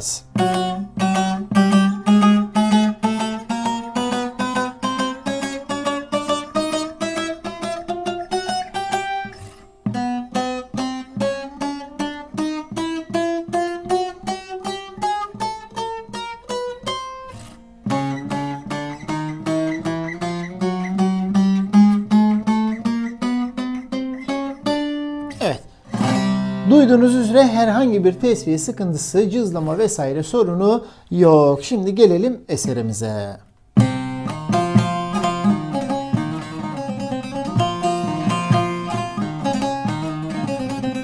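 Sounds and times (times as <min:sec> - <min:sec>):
plucked lute notes climbing: 0:00.3 - 0:30.7, 0:33.5 - 0:41.0.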